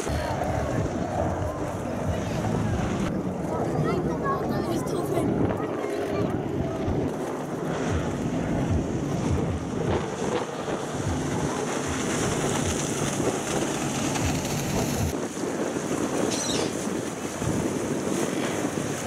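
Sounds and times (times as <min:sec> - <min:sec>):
rush of spray: 0:00.0 - 0:19.0
speedboat engine drone: 0:00.0 - 0:19.0
wind buffeting microphone: 0:00.0 - 0:19.0.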